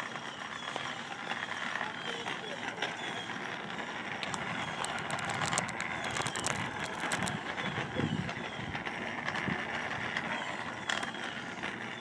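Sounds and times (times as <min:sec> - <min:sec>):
plastic scooter wheels rolling: 0:00.0 - 0:12.0
sharp clicks and rattles: 0:00.0 - 0:12.0.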